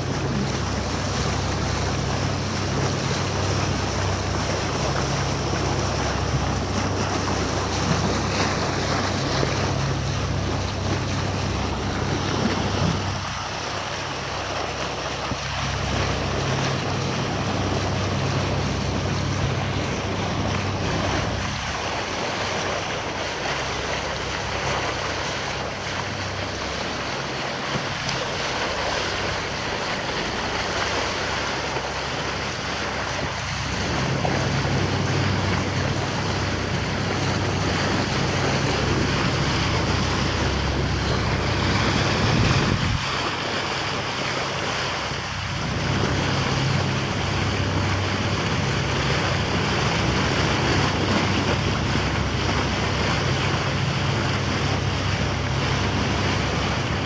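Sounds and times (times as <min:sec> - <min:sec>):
low engine drone: 0:00.0 - 0:57.0
rushing sea water: 0:00.0 - 0:57.0
wind buffeting microphone: 0:00.0 - 0:57.0.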